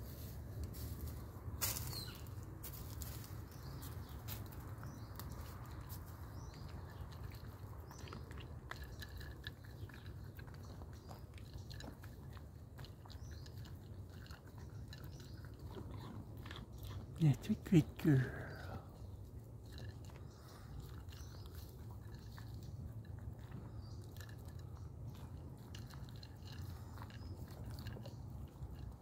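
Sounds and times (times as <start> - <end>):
deer chewing and crunching food: 0.0 - 29.0.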